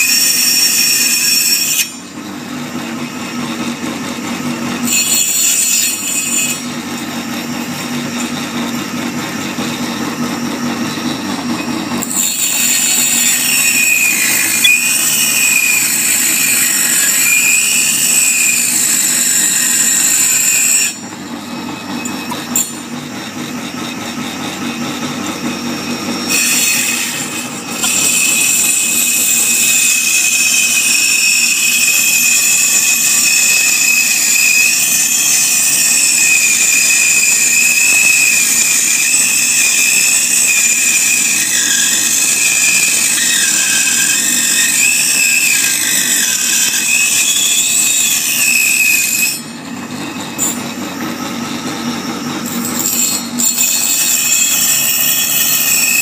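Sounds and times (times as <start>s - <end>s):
machine high-pitched whine: 0.0s - 56.0s.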